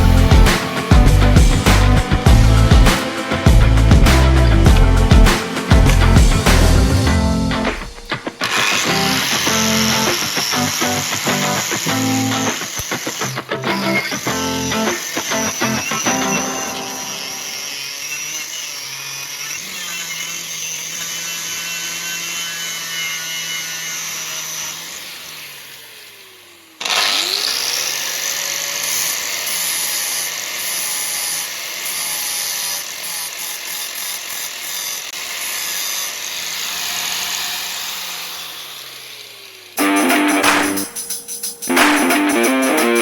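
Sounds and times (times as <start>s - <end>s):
power tool whining: 0.0s - 43.0s.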